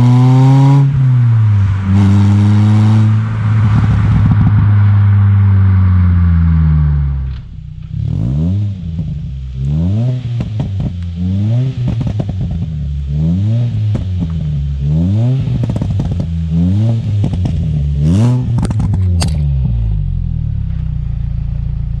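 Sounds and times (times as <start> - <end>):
car engine revving: 0.0 - 22.0
exhaust pops and crackles: 0.0 - 22.0.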